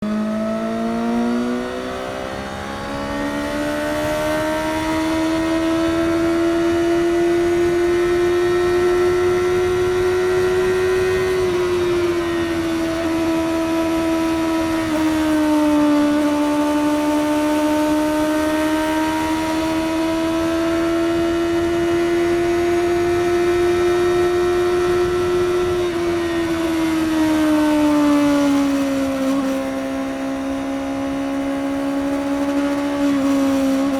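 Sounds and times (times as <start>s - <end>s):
motorcycle engine at highway speed: 0.0s - 33.9s.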